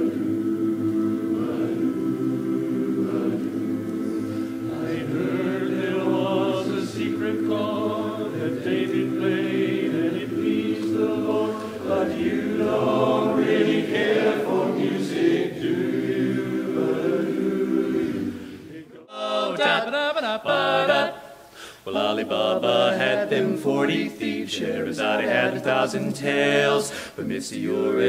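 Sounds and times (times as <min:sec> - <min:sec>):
men's choir singing: 0:00.0 - 0:21.3, 0:21.9 - 0:28.0.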